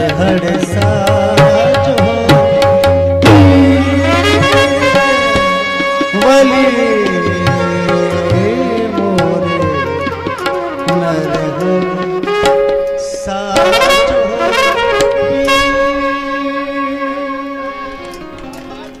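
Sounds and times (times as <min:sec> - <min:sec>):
person singing: 0:00.0 - 0:12.4, 0:13.0 - 0:18.1
reedy held melody: 0:00.0 - 0:19.0
tabla strokes: 0:00.0 - 0:19.0.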